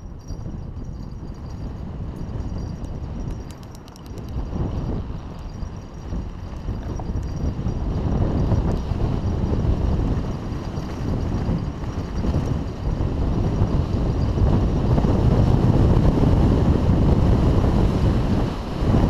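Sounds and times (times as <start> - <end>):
wind rumbling on microphone: 0.0 - 19.0
tyres rolling on dirt trail: 0.2 - 19.0.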